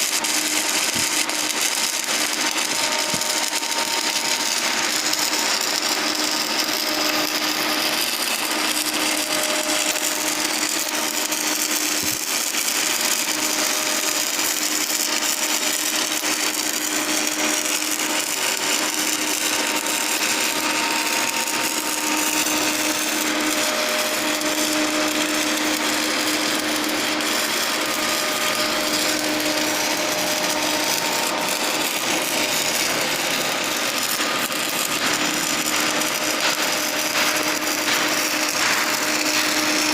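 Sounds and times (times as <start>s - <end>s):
welding arc crackling: 0.0s - 39.9s.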